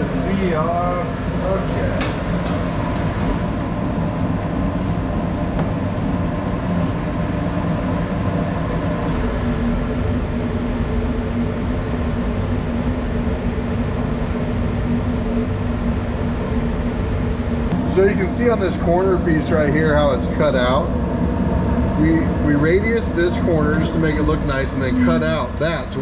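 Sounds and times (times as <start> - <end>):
laser cutter fan rushing air: 0.0 - 26.0.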